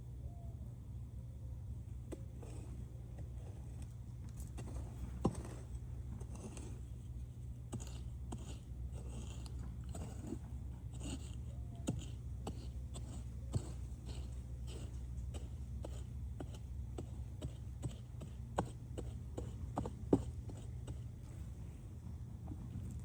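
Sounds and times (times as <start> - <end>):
soil scraping and crunching: 2.0 - 21.6.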